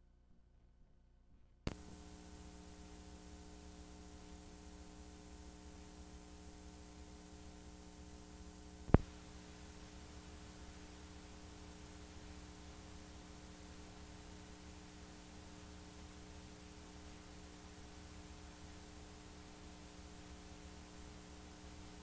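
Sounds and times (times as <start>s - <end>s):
low mains hum: 0.0s - 22.0s
tape hiss: 1.7s - 22.0s.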